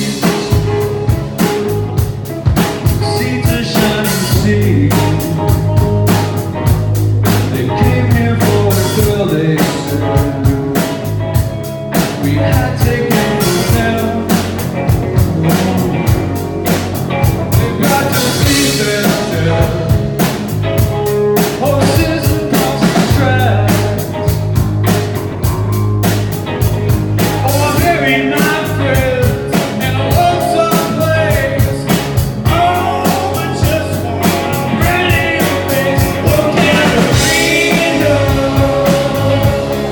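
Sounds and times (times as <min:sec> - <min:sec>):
person singing: 0:00.0 - 0:24.7, 0:27.2 - 0:39.9
drum kit beat: 0:00.0 - 0:39.9
guitar: 0:00.0 - 0:39.9.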